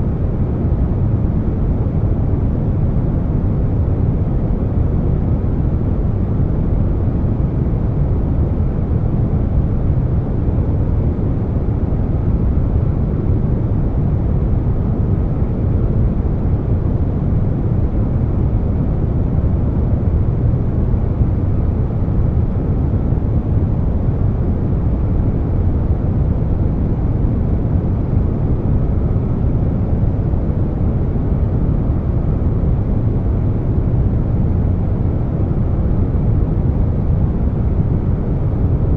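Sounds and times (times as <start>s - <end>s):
air conditioner rushing hum: 0.0s - 38.9s.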